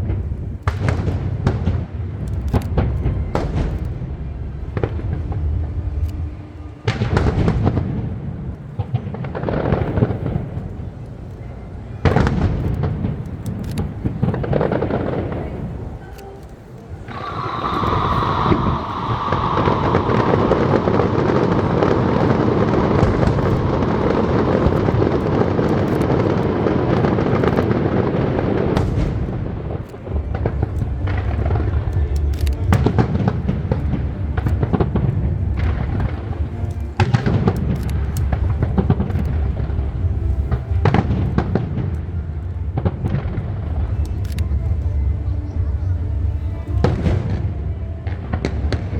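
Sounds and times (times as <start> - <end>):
barrage of fireworks bangs and crackle: 0.0 - 16.1, 17.0 - 48.9
fireworks booming: 0.0 - 48.9.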